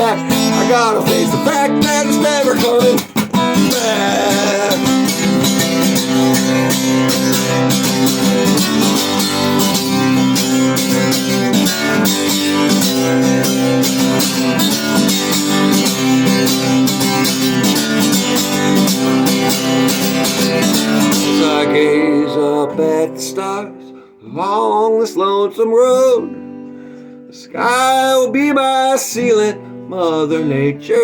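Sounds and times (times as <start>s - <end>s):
strummed guitar chords: 0.0s - 31.0s.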